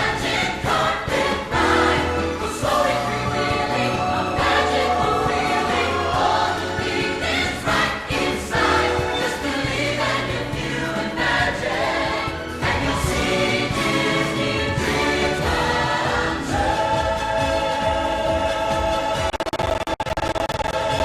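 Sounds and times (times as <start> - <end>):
instrumental backing music: 0.0 - 19.4
choir singing sustained notes: 0.0 - 19.6.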